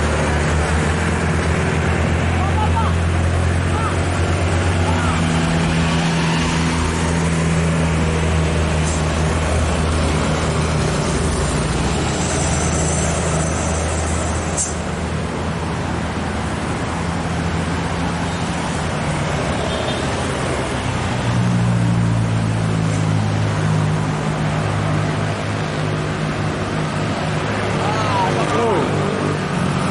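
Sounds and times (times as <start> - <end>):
road noise: 0.0 - 29.9
truck diesel engine under load: 0.0 - 29.9.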